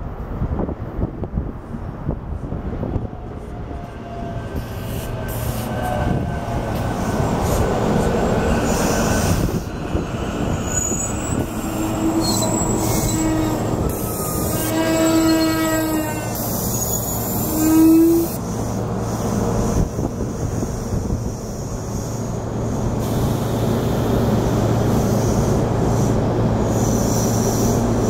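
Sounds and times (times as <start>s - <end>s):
train rolling on rails: 0.0s - 28.0s
whining tones of slowing train: 1.6s - 28.0s.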